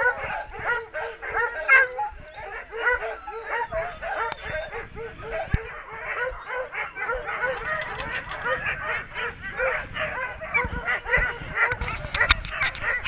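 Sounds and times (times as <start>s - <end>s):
sled dogs barking and yipping: 0.0s - 13.0s.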